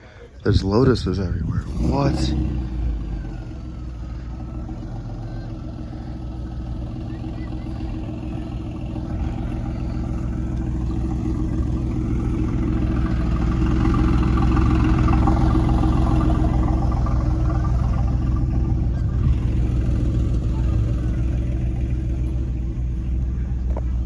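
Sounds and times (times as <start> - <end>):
car engine running at low revs: 0.0 - 24.0.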